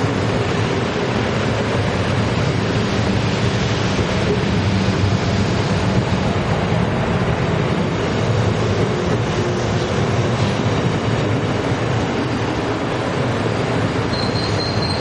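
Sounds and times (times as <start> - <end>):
clickety-clack of rail joints: 0.0 - 15.0
train wheels rumbling on rail: 0.0 - 15.0.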